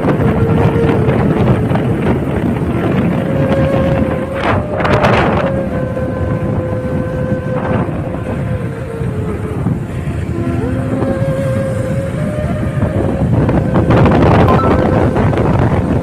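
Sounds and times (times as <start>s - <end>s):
steady humming drone: 0.0s - 16.0s
wind buffeting microphone: 0.0s - 16.0s.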